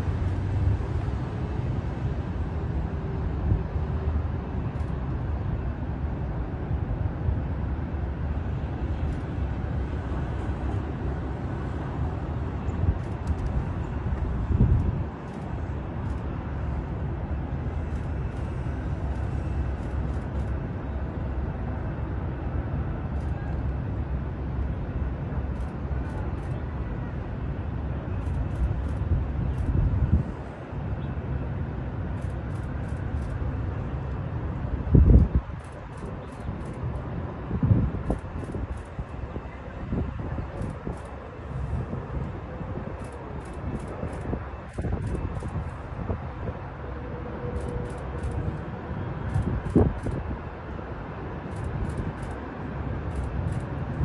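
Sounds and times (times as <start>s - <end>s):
low city rumble: 0.0s - 54.0s.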